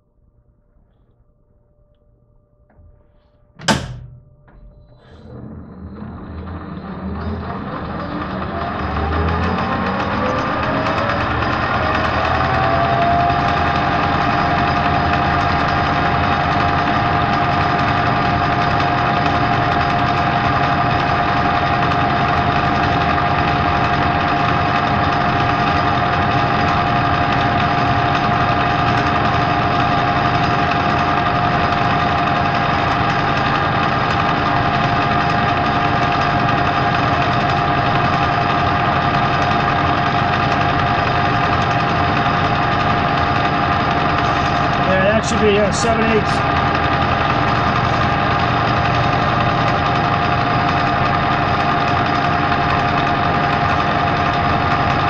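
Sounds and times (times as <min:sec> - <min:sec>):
metal lathe motor whine: 0:04.1 - 0:55.0.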